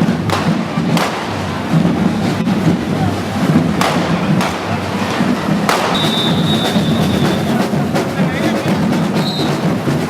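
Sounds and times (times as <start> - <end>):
firecrackers cracking: 0.0 - 8.6
crowd noise: 0.0 - 10.0.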